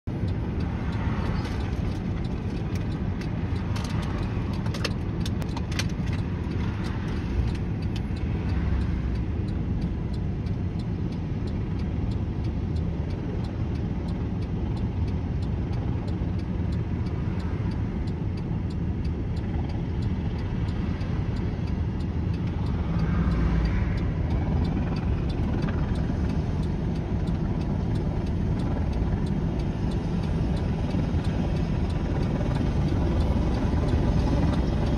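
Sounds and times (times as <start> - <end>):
car road rumble from inside: 0.0 - 34.9
helicopter rotor and engines: 0.1 - 34.9.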